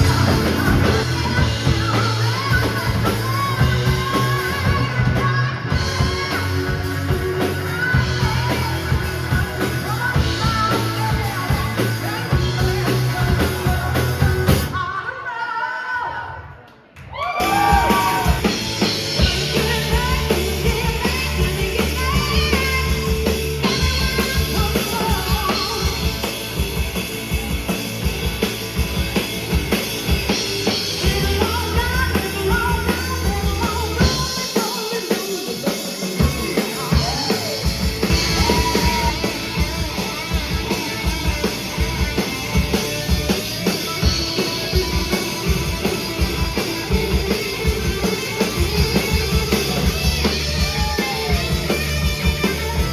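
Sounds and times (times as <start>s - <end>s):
band playing: 0.0s - 14.8s, 17.4s - 52.9s
bass line: 0.0s - 14.8s, 17.4s - 34.4s, 36.2s - 52.9s
drum kit beat: 0.0s - 14.8s, 17.4s - 52.9s.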